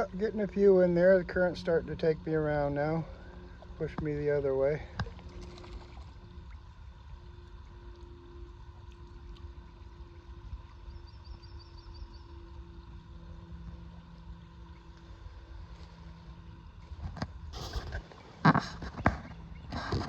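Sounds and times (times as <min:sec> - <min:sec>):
faint steady hum: 0:00.0 - 0:20.0
low outdoor rumble: 0:00.0 - 0:20.0.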